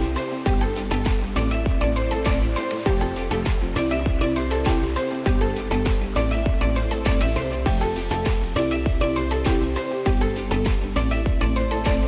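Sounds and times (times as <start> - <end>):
electronic music with bass: 0.0 - 12.0.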